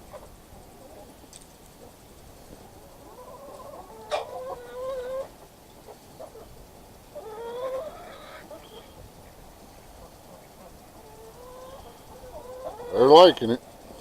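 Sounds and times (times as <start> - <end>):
chickens clucking: 0.0 - 14.0
long drawn-out chicken call: 1.8 - 14.0.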